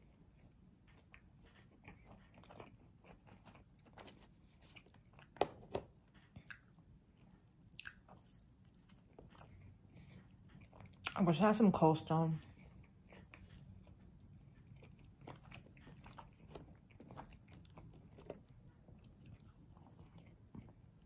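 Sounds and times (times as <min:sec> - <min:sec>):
person chewing food: 0:00.0 - 0:11.4, 0:12.4 - 0:21.0.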